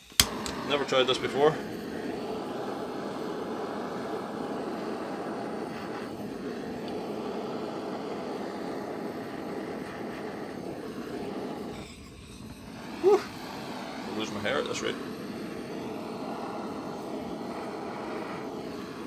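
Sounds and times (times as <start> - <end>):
blowtorch roaring hiss: 0.0 - 19.0.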